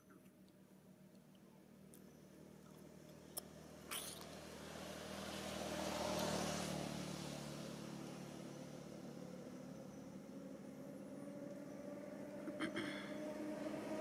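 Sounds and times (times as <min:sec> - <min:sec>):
vehicle passing by: 0:02.4 - 0:14.0.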